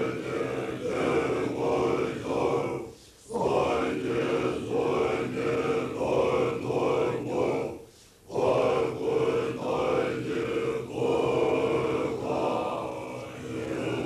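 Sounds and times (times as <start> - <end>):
low droning chant: 0.0 - 14.0.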